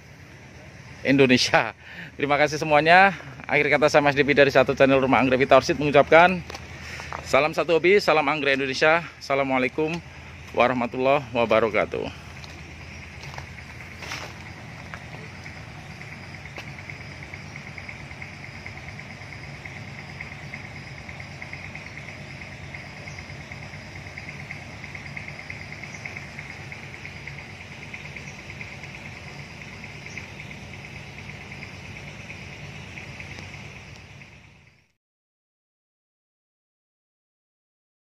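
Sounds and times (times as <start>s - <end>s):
steady low hum: 0.0s - 34.9s
insects chirring: 0.0s - 35.0s.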